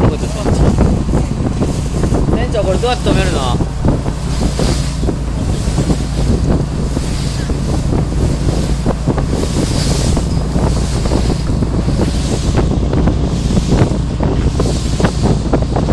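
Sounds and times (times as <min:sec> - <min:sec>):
motorboat engine: 0:00.0 - 0:15.9
water splashing against hull: 0:00.0 - 0:15.9
wind buffeting microphone: 0:00.0 - 0:15.9.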